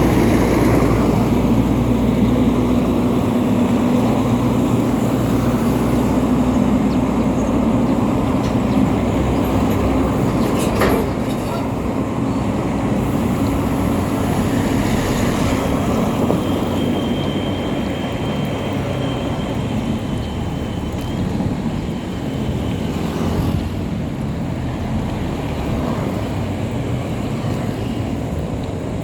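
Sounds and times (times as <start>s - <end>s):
vehicle rumbling on the move: 0.0s - 29.0s.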